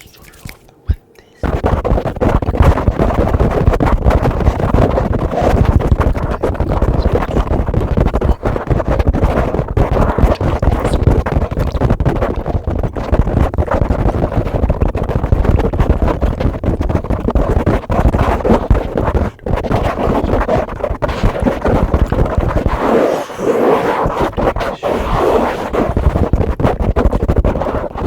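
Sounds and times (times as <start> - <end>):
brush scratching on microphone: 0.0 - 0.7, 1.4 - 28.0.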